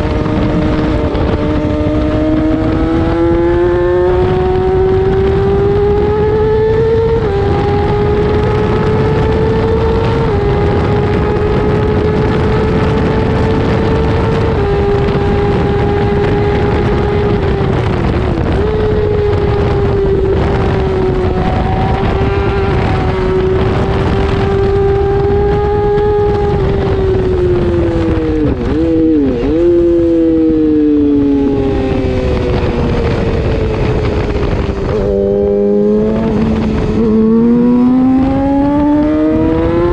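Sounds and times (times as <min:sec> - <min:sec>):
motorcycle engine at high revs: 0:00.0 - 0:39.9
wind rushing: 0:00.0 - 0:39.9.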